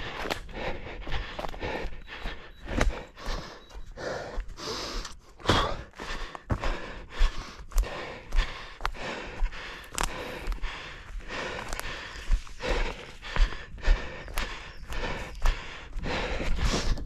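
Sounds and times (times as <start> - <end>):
hard breathing: 0.0 - 17.0.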